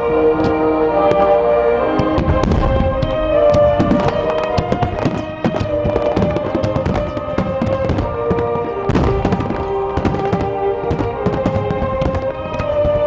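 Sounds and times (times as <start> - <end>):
fireworks bursting and crackling: 0.0 - 13.0
music with long held tones: 0.0 - 13.0.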